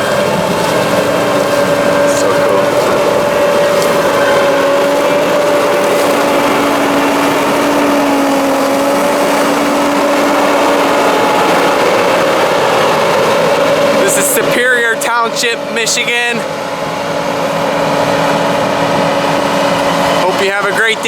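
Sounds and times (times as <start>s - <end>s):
combine harvester droning: 0.0s - 21.0s.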